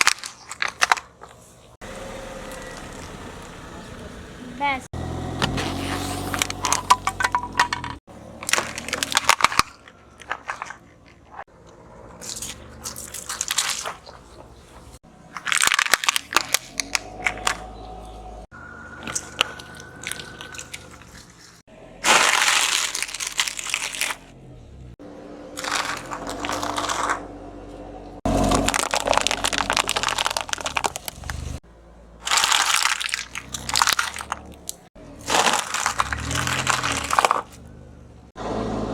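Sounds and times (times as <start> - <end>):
objects crunching under a tyre: 0.0 - 4.1, 5.0 - 38.4.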